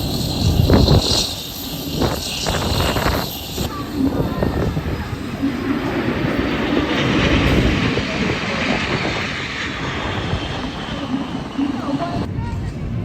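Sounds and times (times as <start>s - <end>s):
aircraft flying past: 0.0s - 13.0s.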